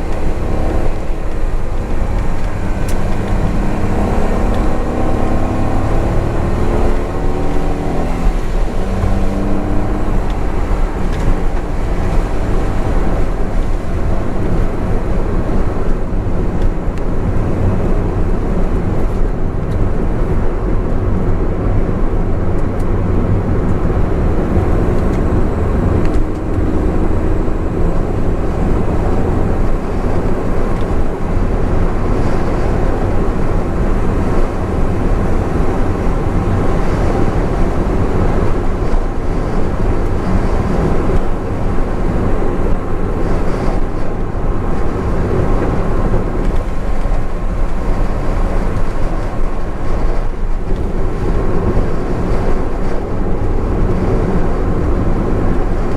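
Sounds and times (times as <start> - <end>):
car driving rumble: 0.0 - 55.9.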